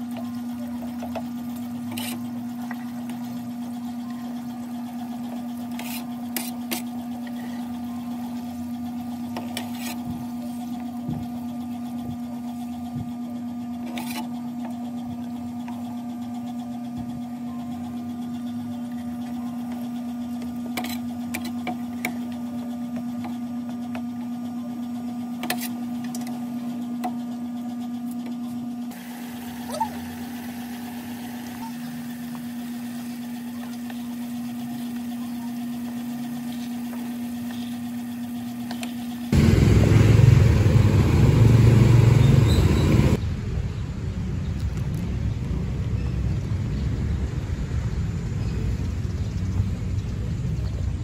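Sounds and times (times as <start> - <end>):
electric motor hum: 0.0 - 43.2.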